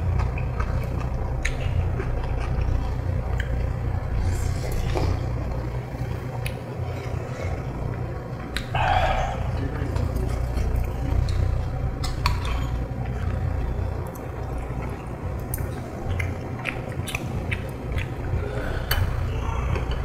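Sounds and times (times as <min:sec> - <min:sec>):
chewing: 0:00.0 - 0:20.0
low hum: 0:00.0 - 0:20.0.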